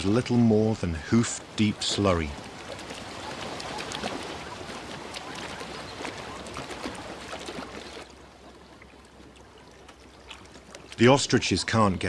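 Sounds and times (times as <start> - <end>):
hooves splashing through muddy water: 0.0 - 12.0.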